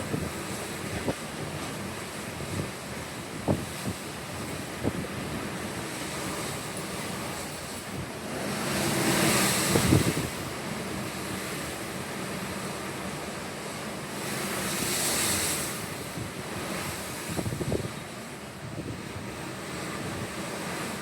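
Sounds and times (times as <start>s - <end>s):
wind buffeting microphone: 0.0s - 12.0s, 14.6s - 21.0s
ocean surf: 0.0s - 21.0s.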